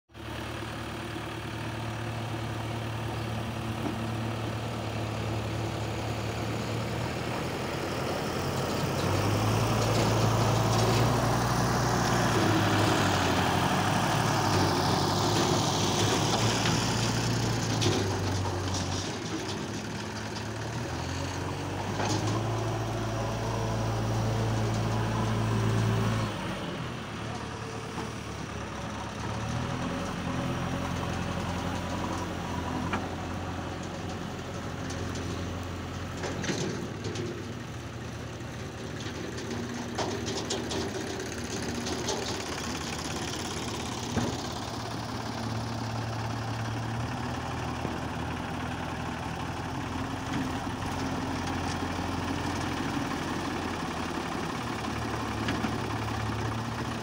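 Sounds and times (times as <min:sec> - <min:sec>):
diesel engines running: 0:00.2 - 0:57.0.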